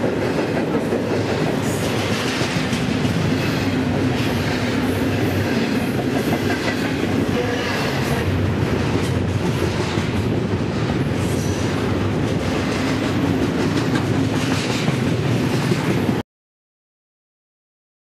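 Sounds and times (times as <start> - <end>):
freight train wheels rumbling: 0.0 - 16.2.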